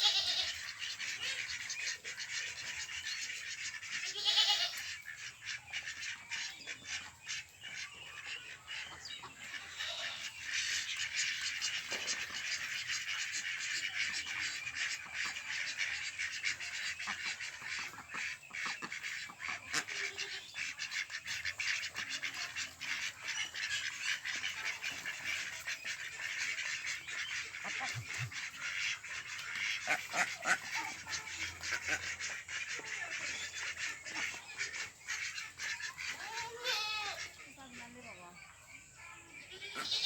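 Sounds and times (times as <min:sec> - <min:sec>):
flock of ducks calling: 0:00.0 - 0:40.0.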